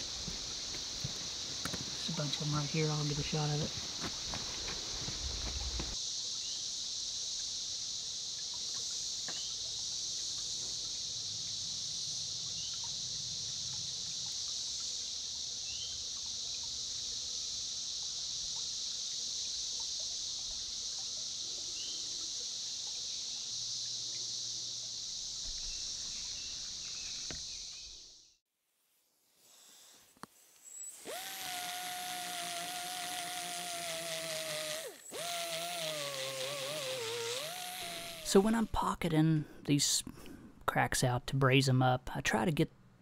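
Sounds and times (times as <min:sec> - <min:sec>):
cicadas buzzing: 0:00.0 - 0:28.4, 0:29.4 - 0:39.0.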